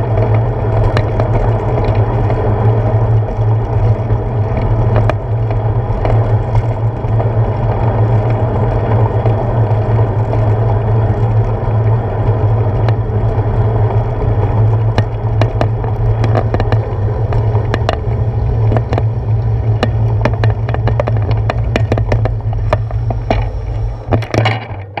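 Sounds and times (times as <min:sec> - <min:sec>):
bicycle clicks and rattles: 0:00.0 - 0:25.0
bicycle road rumble: 0:00.0 - 0:25.0
wind buffeting microphone: 0:00.0 - 0:25.0.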